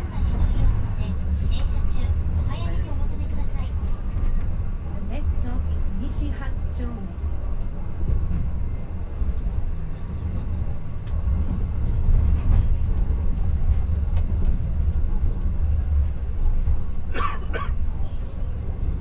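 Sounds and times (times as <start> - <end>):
streetcar rumbling on rails: 0.0 - 19.0.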